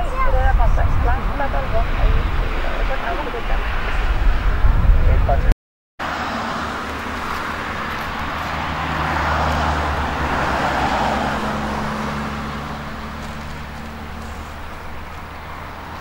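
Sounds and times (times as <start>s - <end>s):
distant jet engine rushing: 0.0s - 16.0s.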